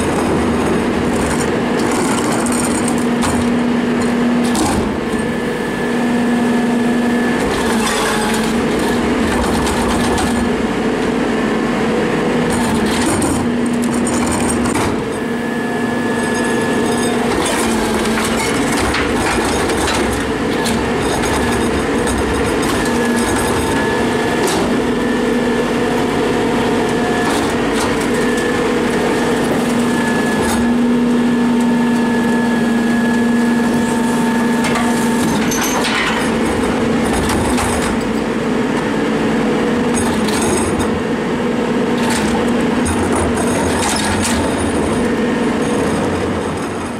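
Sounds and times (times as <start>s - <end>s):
engine and hydraulic pump hum: 0.0s - 46.9s.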